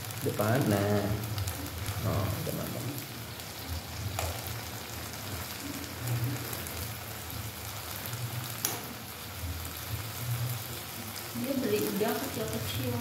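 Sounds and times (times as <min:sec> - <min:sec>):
shrimp sizzling in frying pan: 0:00.0 - 0:13.0.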